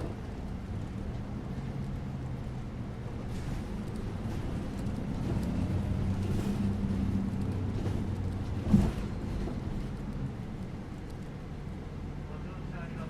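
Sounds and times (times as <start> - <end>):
bus engine droning: 0.0 - 13.0
road noise: 0.0 - 13.0.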